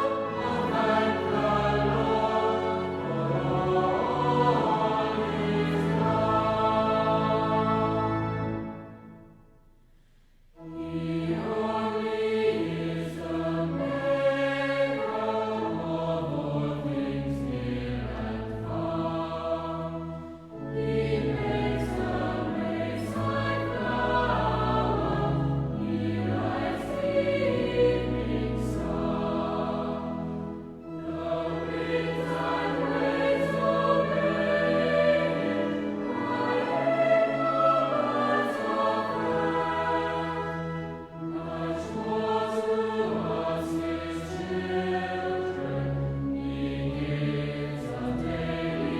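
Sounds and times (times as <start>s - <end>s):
choir singing church music: 0.0s - 48.9s.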